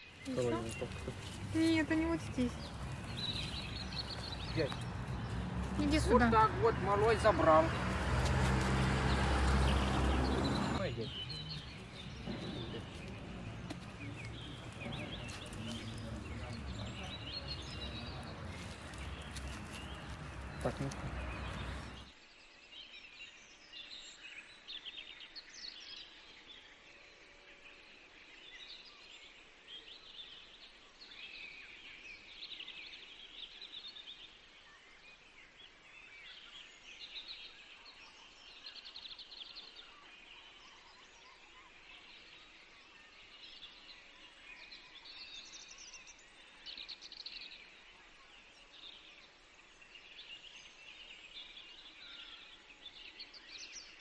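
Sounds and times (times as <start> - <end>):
faint outdoor background noise: 0.0 - 54.0
small birds chirping: 0.0 - 54.0.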